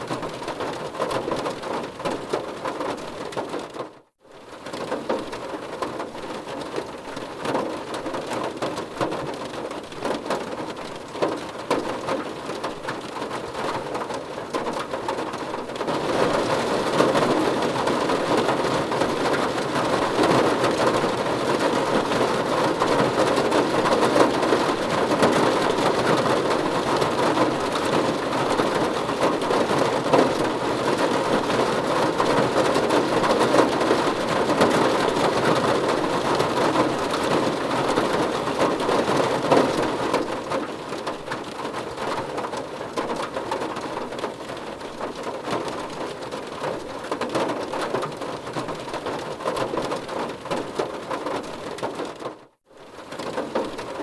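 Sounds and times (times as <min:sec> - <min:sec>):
heavy rain: 0:04.3 - 0:54.0.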